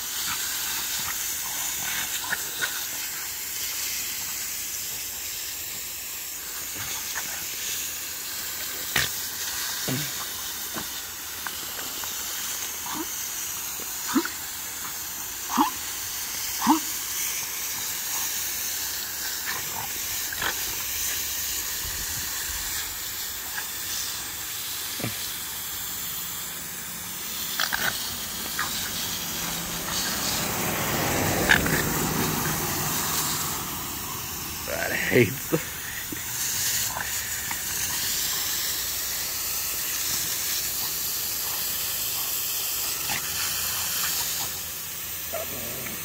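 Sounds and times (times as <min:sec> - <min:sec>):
dog vocal sounds: 0:00.0 - 0:46.0
hose spray nozzle hissing: 0:00.0 - 0:46.0.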